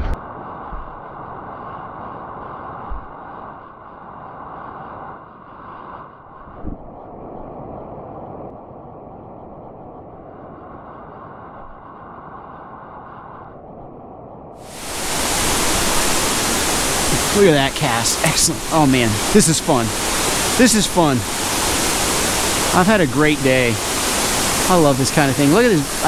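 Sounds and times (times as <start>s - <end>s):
muffled underwater stream rushing: 0.0s - 4.8s, 5.7s - 12.3s, 13.7s - 26.0s.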